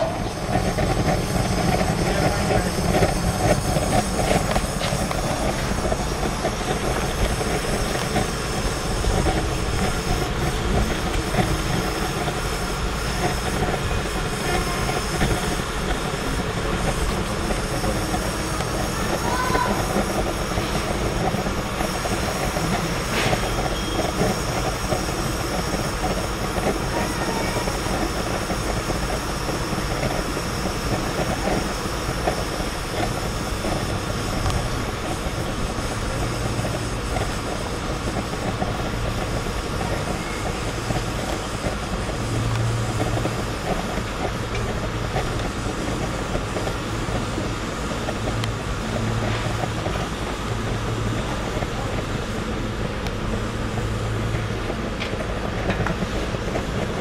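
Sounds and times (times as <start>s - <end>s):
fan-blown stove flame roaring: 0.0s - 57.0s.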